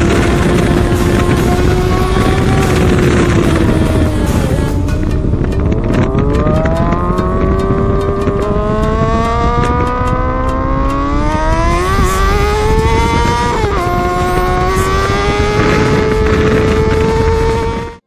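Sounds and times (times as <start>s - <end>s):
motorcycle engine accelerating: 0.0s - 18.0s
wind and road rush: 0.0s - 18.0s.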